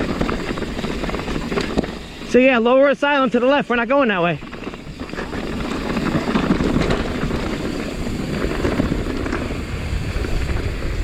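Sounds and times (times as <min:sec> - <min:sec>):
bike tyres rumbling on dirt: 0:00.0 - 0:11.0
wind rush on microphone: 0:00.0 - 0:11.0.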